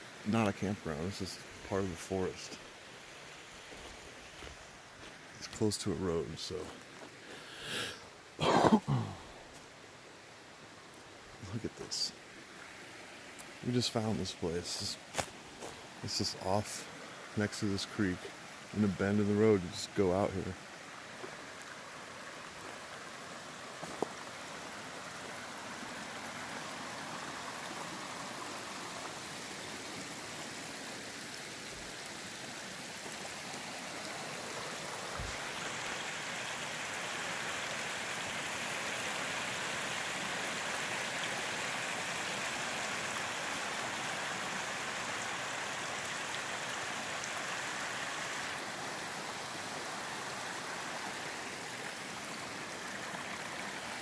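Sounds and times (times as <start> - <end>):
creek running over stones: 0.0 - 54.0.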